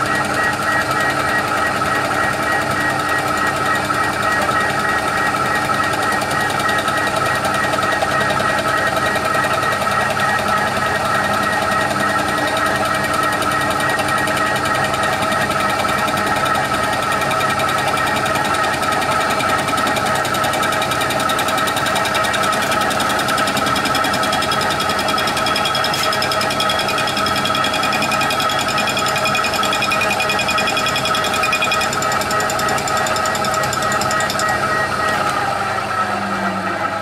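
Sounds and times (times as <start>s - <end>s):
milling machine cutting metal: 0.0s - 37.0s.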